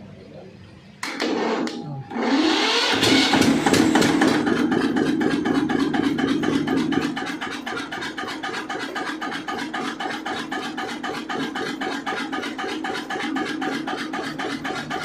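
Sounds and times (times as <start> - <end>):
diesel engine starting and running: 1.0 - 15.0.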